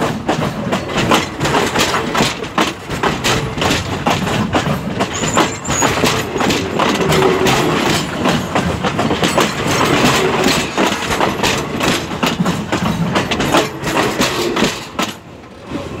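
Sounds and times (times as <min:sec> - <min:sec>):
clacks and knocks from running gear: 0:00.0 - 0:15.2
train wheels rattling over rails: 0:00.0 - 0:16.0.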